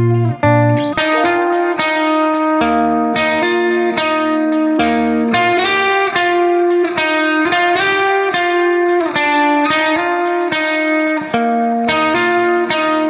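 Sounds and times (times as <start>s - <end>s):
plucked guitar music: 0.0s - 13.0s.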